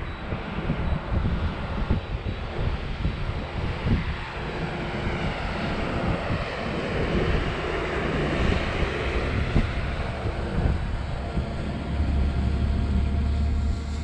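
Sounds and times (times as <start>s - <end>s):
drone propellers whirring: 0.0s - 14.0s
wind rumbling on microphone: 0.0s - 14.0s.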